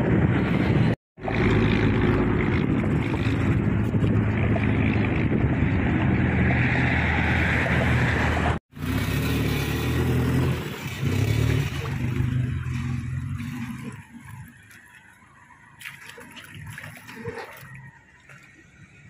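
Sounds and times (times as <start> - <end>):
engine running low: 0.0 - 19.0.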